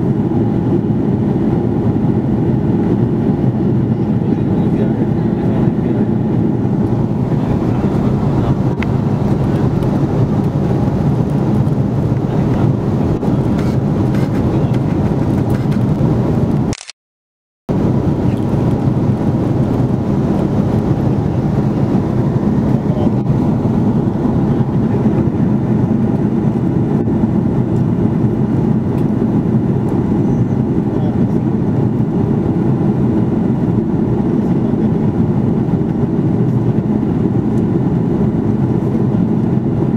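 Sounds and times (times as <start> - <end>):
aircraft cabin drone: 0.0 - 16.9, 17.7 - 39.9.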